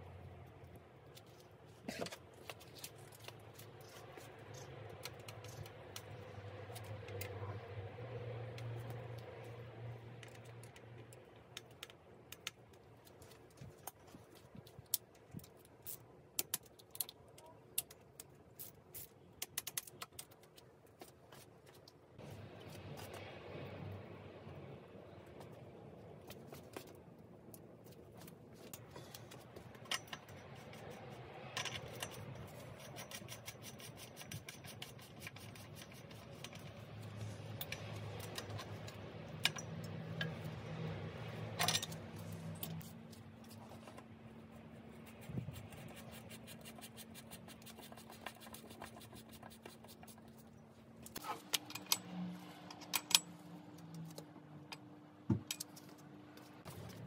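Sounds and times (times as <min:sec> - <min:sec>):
bike tools clicking and scraping: 0:01.0 - 0:23.2, 0:26.2 - 0:54.8, 0:55.4 - 0:57.0.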